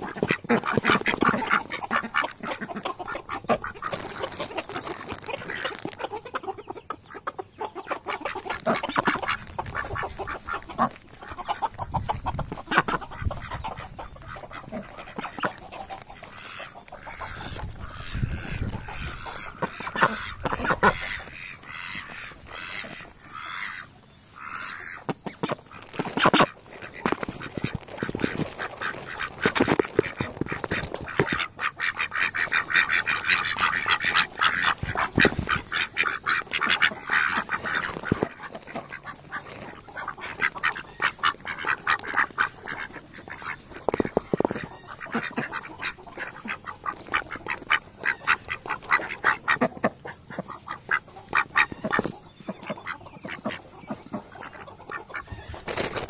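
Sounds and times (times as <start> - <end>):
duck quacking: 0.0 - 56.0.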